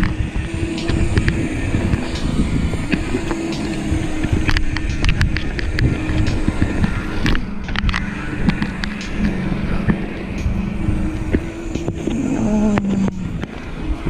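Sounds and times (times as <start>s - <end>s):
bike tyre noise: 0.0s - 14.0s
wind rumble on microphone: 0.0s - 14.0s.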